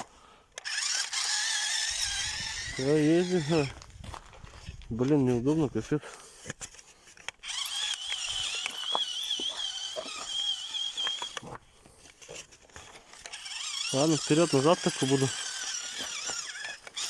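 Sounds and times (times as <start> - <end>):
toy car motor whining: 0.0 - 17.0.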